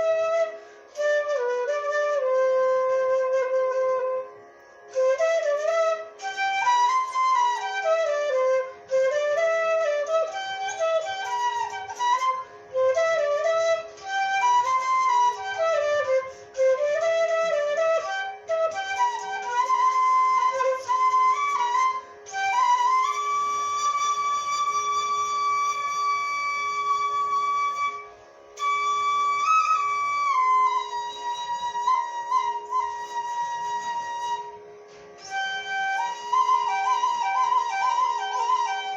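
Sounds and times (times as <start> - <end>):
flute-like instrumental melody: 0.0 - 38.9.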